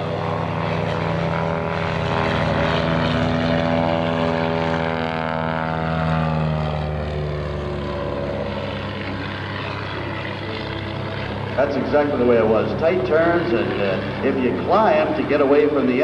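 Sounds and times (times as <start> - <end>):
propeller plane flying overhead: 0.0 - 16.0.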